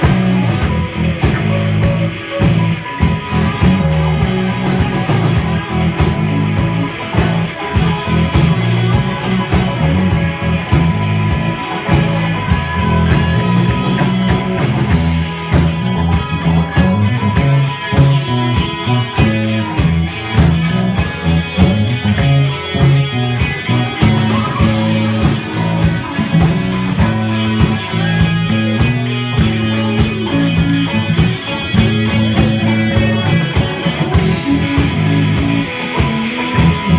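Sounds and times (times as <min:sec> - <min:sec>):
drums: 0:00.0 - 0:36.9
electric guitar: 0:00.0 - 0:36.9
heavy bass: 0:00.0 - 0:36.9.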